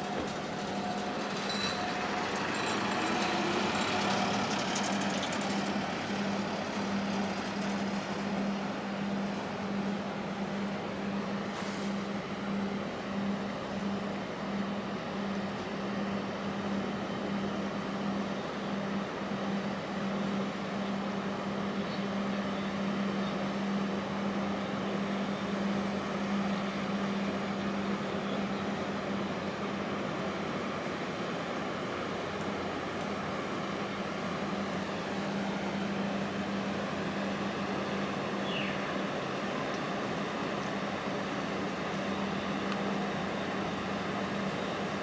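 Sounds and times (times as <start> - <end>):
container ship passing: 0.0 - 45.0
machinery and water rushing: 0.0 - 45.0.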